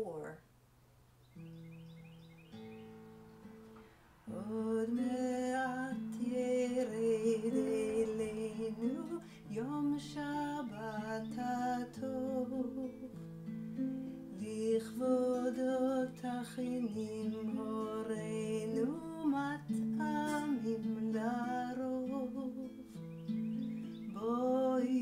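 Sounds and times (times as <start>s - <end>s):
woman singing wordless melody: 0.0s - 0.4s, 4.3s - 25.0s
acoustic guitar played softly: 1.0s - 25.0s.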